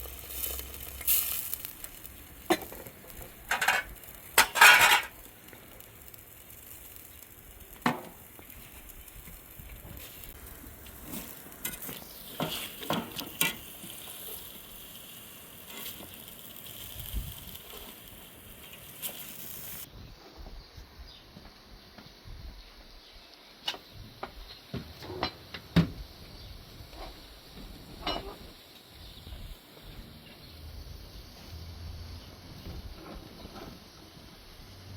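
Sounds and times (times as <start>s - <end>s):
food sizzling in a pan: 0.0s - 19.9s, 23.8s - 32.8s.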